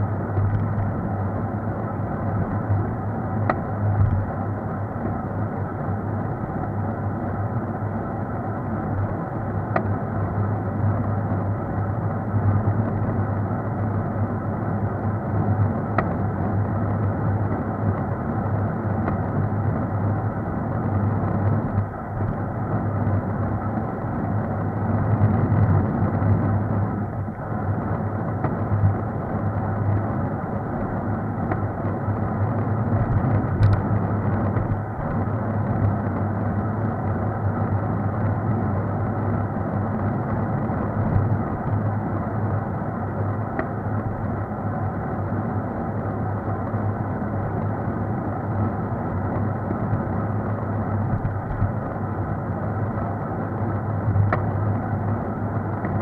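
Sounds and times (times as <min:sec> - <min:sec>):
road noise of riding on asphalt: 0:00.0 - 0:56.0.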